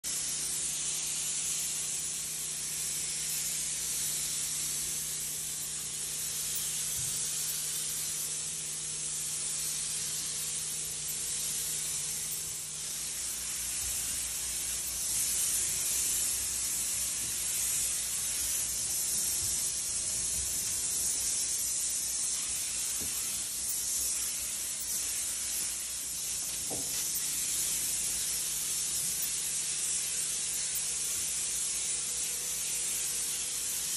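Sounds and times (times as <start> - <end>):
spray gun hissing: 0.1 - 33.9.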